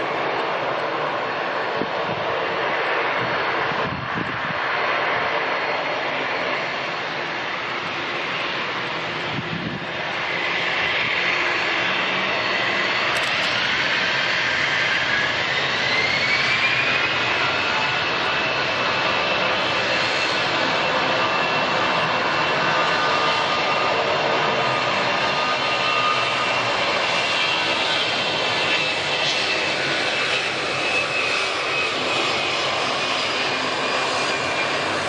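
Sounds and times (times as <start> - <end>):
jet engine whine rising in pitch: 0.0 - 35.0
jet engines running: 0.0 - 35.0.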